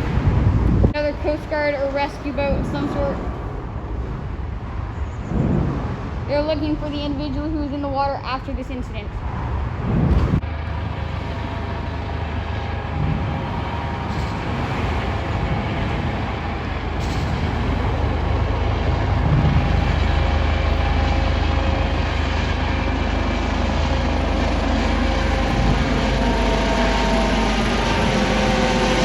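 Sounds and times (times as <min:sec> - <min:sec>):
heavy vehicle traffic rumble: 0:00.0 - 0:29.0.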